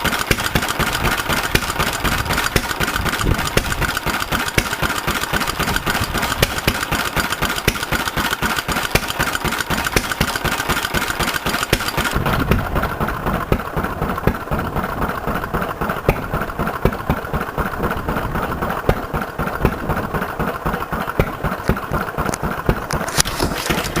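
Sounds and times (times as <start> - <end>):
stationary engine running: 0.0 - 24.0.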